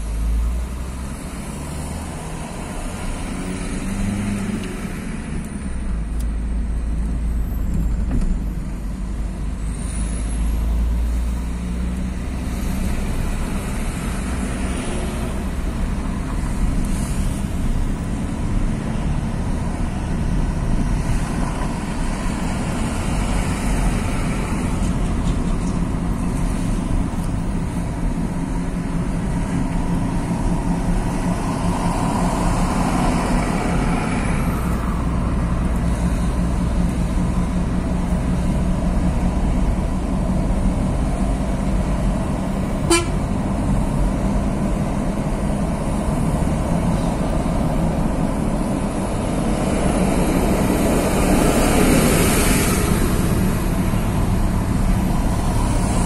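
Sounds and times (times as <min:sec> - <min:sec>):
road and engine noise in car: 0:00.0 - 0:56.0
traffic passing: 0:00.0 - 0:56.0.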